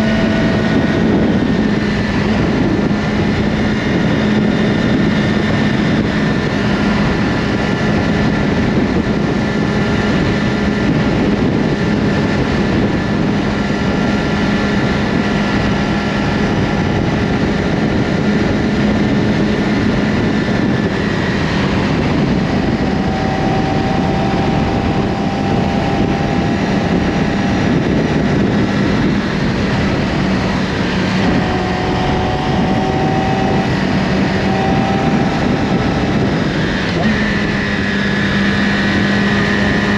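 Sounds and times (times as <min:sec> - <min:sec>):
motorcycle engine at steady revs: 0:00.0 - 0:39.9
steady rushing noise: 0:00.0 - 0:39.9.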